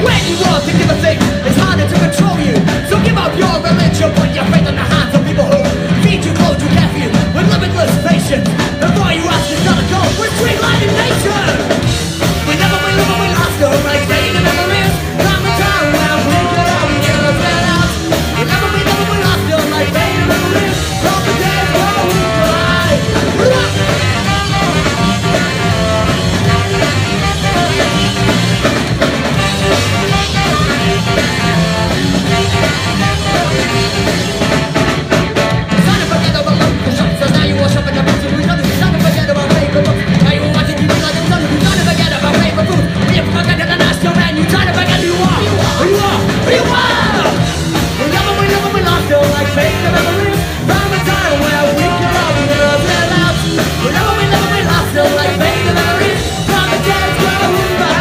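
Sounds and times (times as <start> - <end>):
person singing: 0.0 - 28.3, 35.6 - 58.0
ska-punk band playing live: 0.0 - 58.0.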